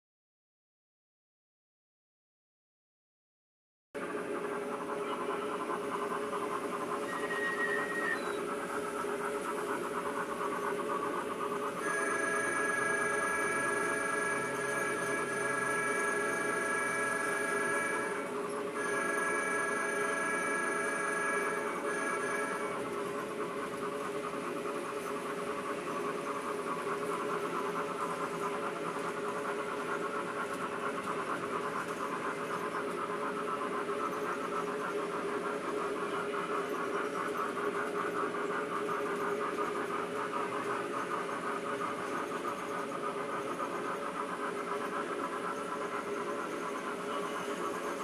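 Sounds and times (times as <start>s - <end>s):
model train motors whirring: 4.2s - 48.0s.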